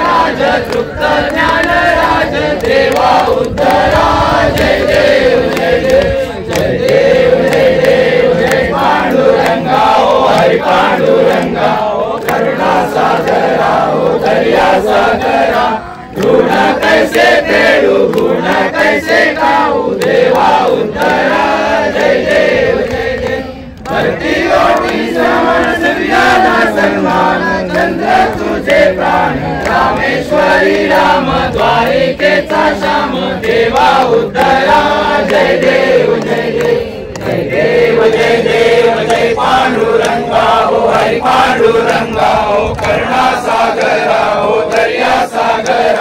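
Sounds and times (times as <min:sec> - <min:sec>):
group chanting in unison: 0:00.0 - 0:46.0.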